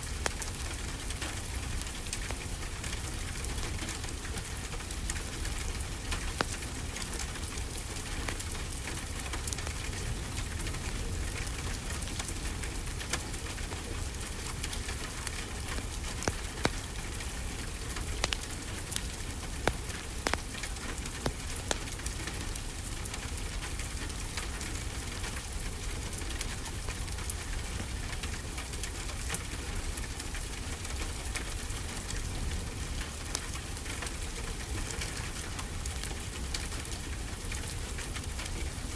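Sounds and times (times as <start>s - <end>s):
fireplace fire crackling: 0.0s - 38.9s
steady rainfall: 0.0s - 38.9s.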